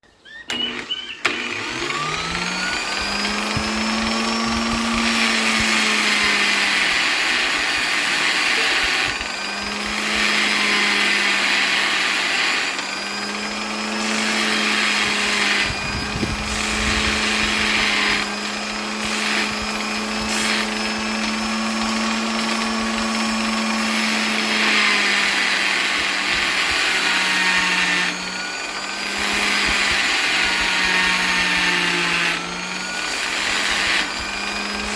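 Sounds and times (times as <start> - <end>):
electric polisher motor whirring: 0.1 - 34.9.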